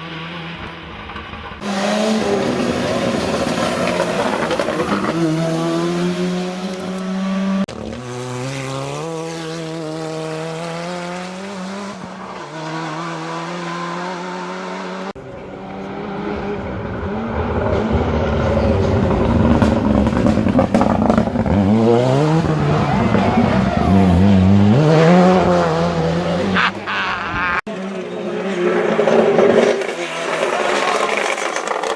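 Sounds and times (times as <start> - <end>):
rally car engine accelerating: 0.0 - 26.9, 27.6 - 31.9.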